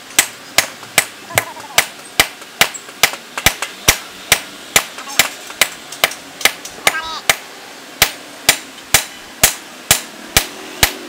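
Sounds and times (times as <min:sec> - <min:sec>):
hammer striking hot steel on anvil: 0:00.2 - 0:07.4, 0:08.0 - 0:11.0.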